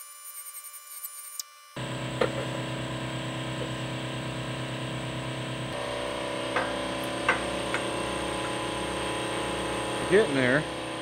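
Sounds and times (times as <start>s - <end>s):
machine running with low hum: 1.4s - 11.0s.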